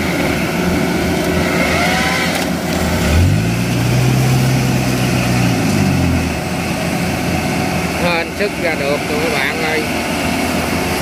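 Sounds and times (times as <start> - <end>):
diesel engines straining: 0.0 - 11.0.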